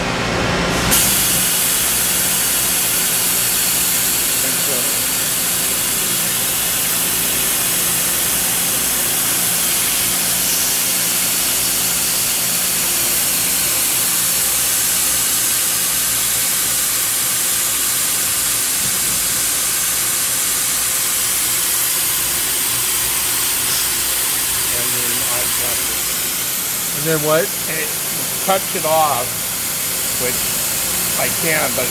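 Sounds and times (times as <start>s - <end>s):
low mechanical hum: 0.0s - 31.9s
loud even hiss: 0.7s - 31.9s.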